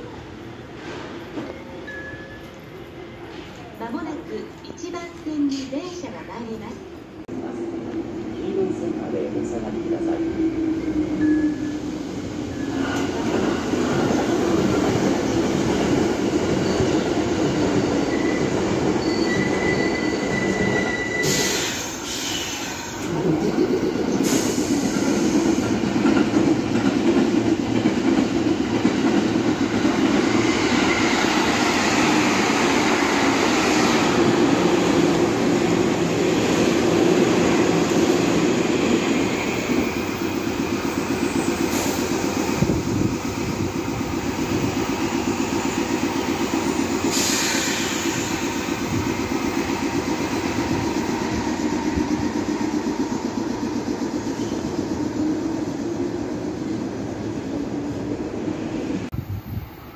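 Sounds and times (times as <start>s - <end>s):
train wheels rumbling on rails: 7.3s - 59.9s.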